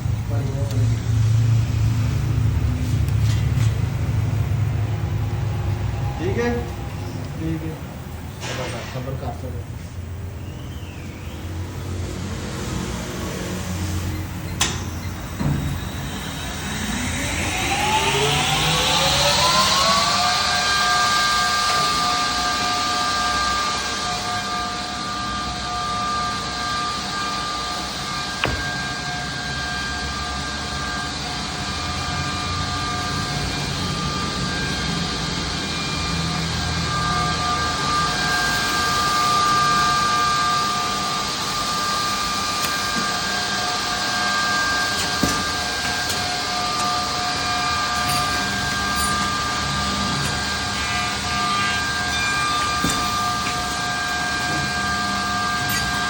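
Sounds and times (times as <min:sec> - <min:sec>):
machine motor whine: 0:00.0 - 0:56.0.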